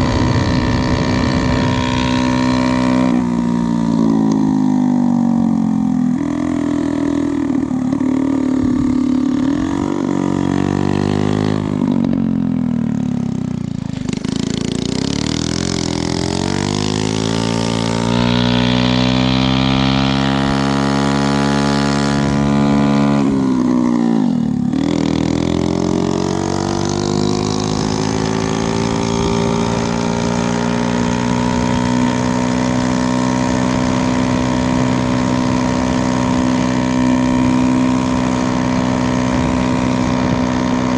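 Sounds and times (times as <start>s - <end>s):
minibike engine running: 0.0s - 40.9s.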